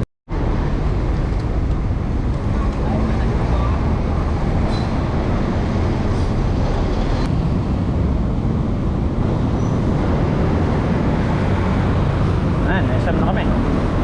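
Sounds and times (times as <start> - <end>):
road traffic: 0.3 - 14.0
wind rushing on microphone: 0.3 - 14.0.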